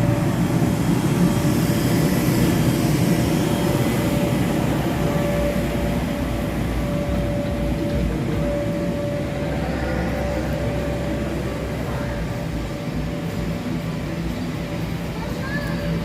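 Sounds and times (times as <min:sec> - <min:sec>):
electric blower fans droning: 0:00.0 - 0:16.0.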